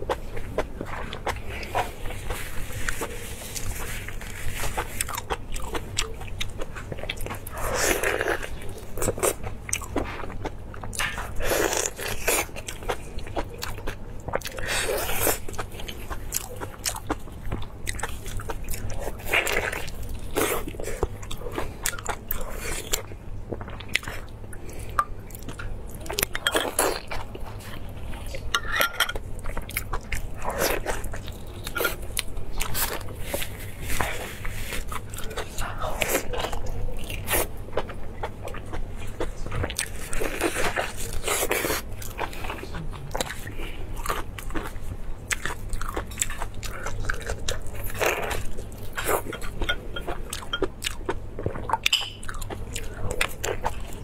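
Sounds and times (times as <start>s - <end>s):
low steady hum: 0.0s - 54.0s
chewing with wet mouth clicks: 4.7s - 54.0s.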